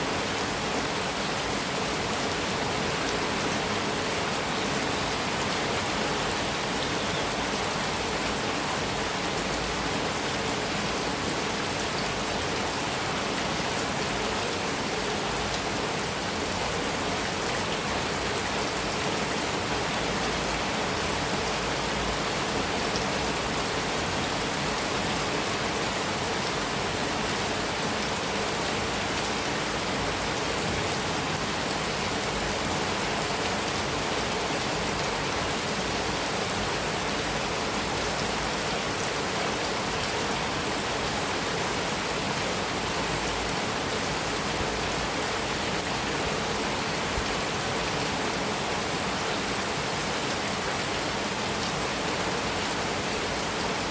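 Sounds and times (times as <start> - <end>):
heavy rain on a metal roof: 0.0 - 53.9.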